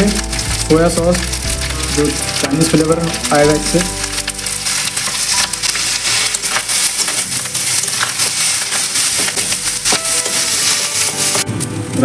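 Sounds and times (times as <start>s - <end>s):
spatula scraping and knocking pan: 0.0s - 11.5s
rice sizzling in a pan: 0.0s - 12.0s.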